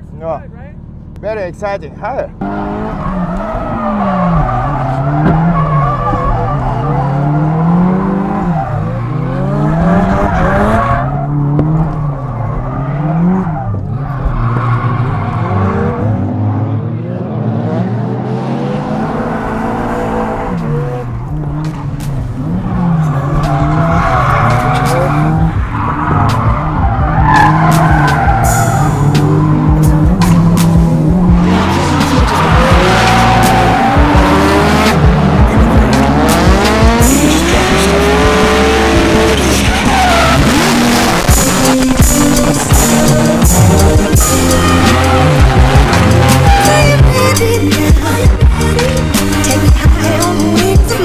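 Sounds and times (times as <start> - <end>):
tires squealing and skidding: 2.4 - 16.6, 18.5 - 51.0
car engine revving hard: 2.4 - 51.0.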